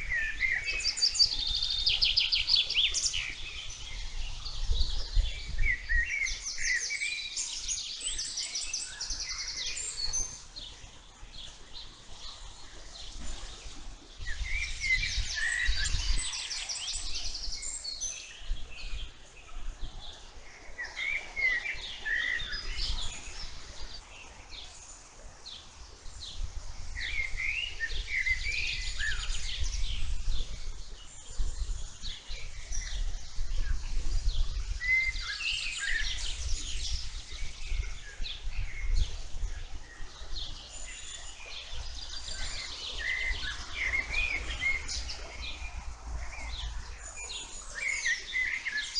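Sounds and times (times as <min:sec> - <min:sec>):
birds singing and chirping: 0:00.0 - 0:48.9.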